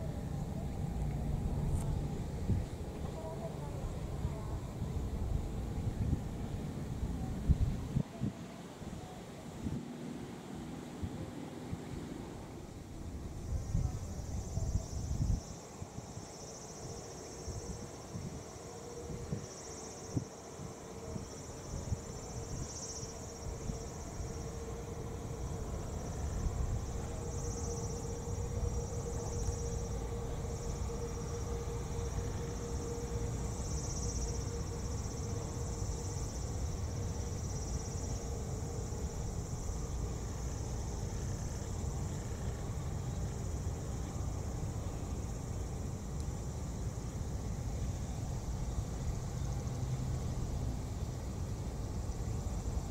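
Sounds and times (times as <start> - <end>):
insects chirring: 0.0 - 52.9
jet engines rumbling: 0.0 - 52.9.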